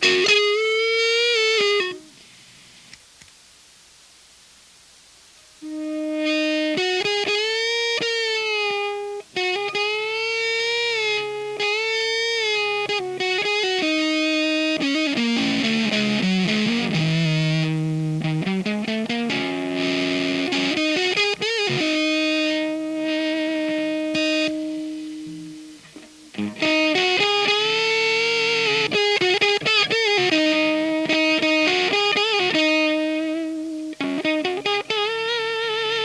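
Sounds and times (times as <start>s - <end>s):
fuzzed electric guitar: 0.0s - 3.0s, 5.6s - 36.0s.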